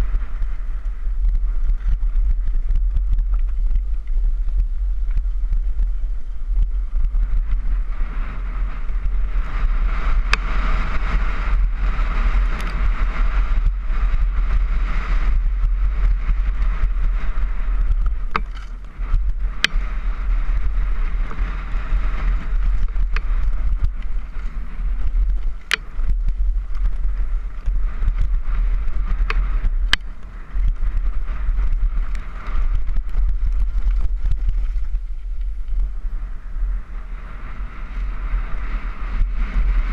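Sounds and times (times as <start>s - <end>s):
bike rattling clacks: 0.0s - 36.2s
tyres on loose gravel: 0.0s - 39.9s
wind buffeting microphone: 0.0s - 39.9s.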